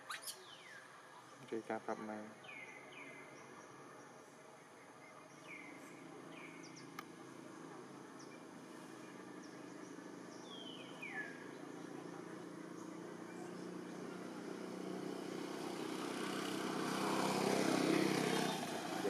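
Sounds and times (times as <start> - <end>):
distant traffic hum: 0.1 - 19.0.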